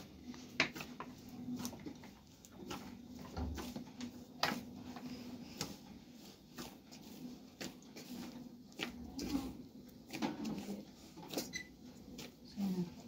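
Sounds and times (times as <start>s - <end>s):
dough worked in a metal bowl: 0.0s - 13.0s.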